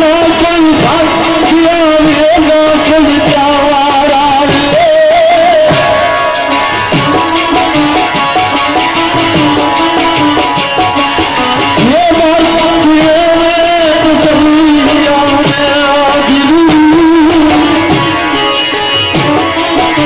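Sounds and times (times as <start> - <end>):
harmonium melody: 0.0 - 20.0
plucked string instruments: 0.0 - 20.0.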